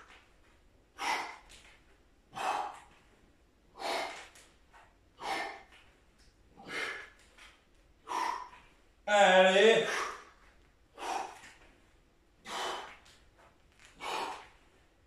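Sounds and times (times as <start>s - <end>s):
man breathing hard: 0.9s - 5.9s, 6.5s - 8.8s, 9.8s - 15.0s.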